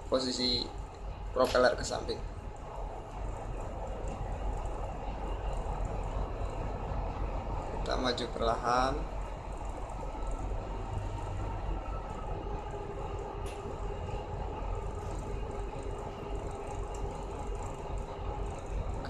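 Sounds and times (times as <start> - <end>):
diesel engines droning: 0.0 - 19.0
faint steady whine: 0.0 - 19.0.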